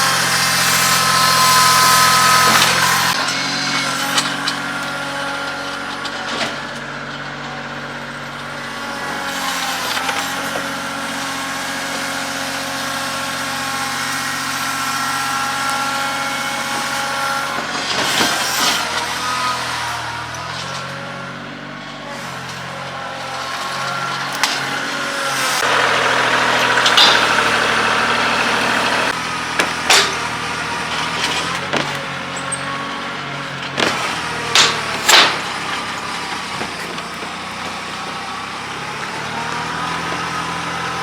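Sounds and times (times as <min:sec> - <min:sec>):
diesel tractor engine under load: 0:00.0 - 0:41.0.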